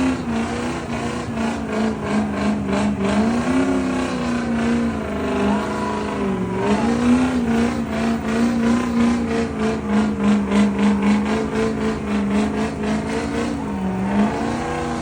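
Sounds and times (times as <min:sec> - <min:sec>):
truck engine at high revs: 0:00.0 - 0:15.0.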